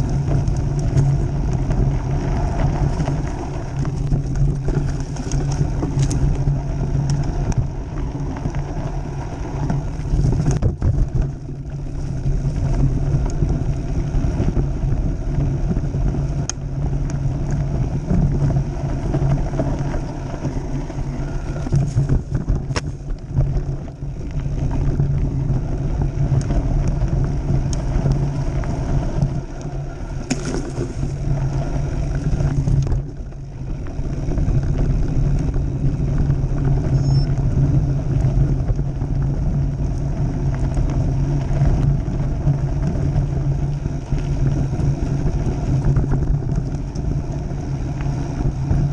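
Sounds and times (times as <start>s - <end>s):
bike rattling over bumps: 0.0s - 48.9s
bike tyres rumbling on gravel: 0.0s - 48.9s.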